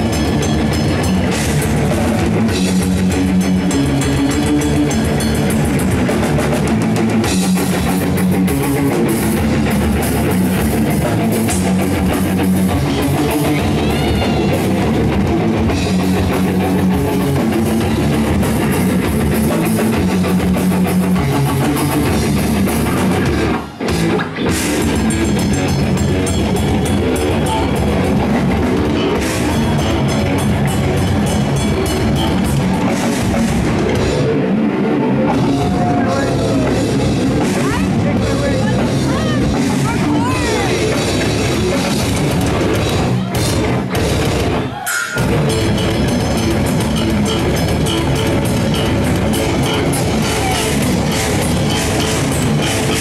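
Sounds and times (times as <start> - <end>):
distorted electric guitars: 0.0 - 53.0
drum kit: 0.0 - 53.0.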